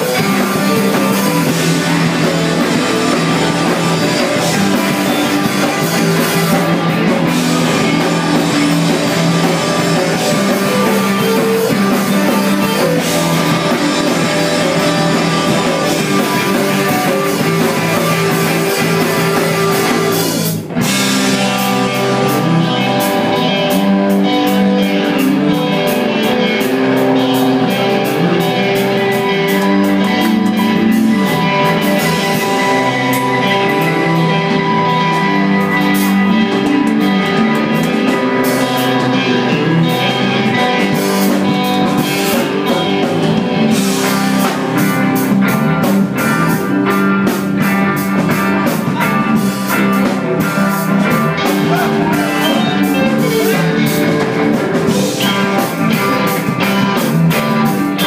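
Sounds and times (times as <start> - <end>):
bass guitar: 0.0 - 58.0
drum kit and cymbals: 0.0 - 58.0
electric guitars: 0.0 - 58.0.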